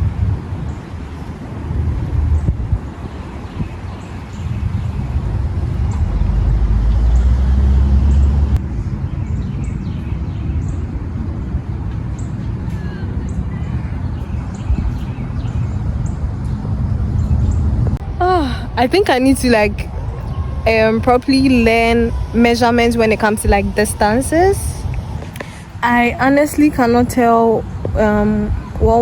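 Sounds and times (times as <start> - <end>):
outdoor rumble: 0.0 - 29.0.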